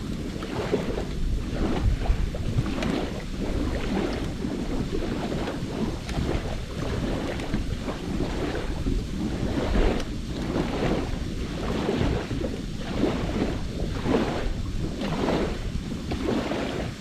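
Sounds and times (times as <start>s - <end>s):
campfire burning: 0.0s - 16.2s
wind buffeting microphone: 0.0s - 17.0s.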